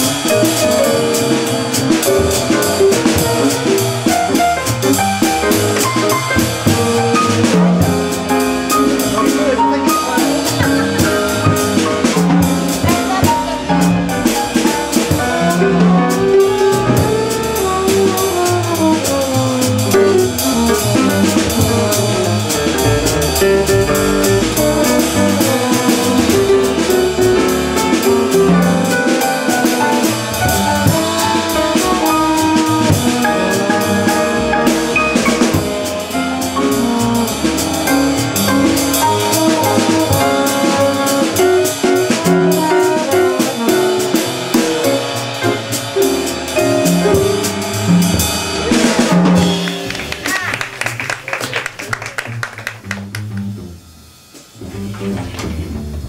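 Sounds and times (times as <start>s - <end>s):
trombone melody: 0.0s - 50.2s
double bass: 0.0s - 56.0s
drum kit with cymbals: 0.0s - 56.0s
piano: 0.0s - 56.0s.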